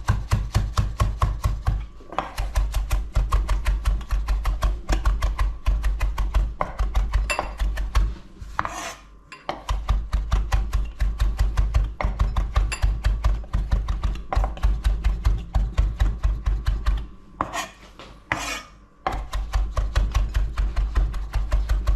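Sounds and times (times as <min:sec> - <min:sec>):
knife chopping on chopping board: 0:00.0 - 0:21.9.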